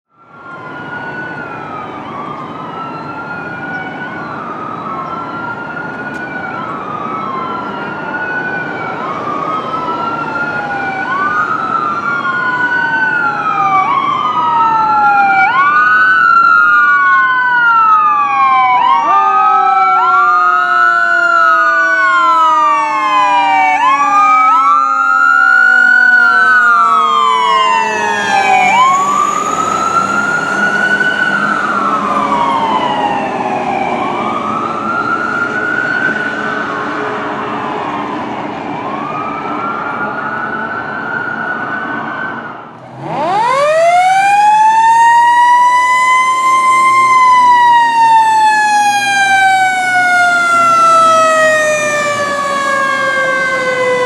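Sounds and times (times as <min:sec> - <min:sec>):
fire engine siren wailing: 0:00.1 - 0:54.0.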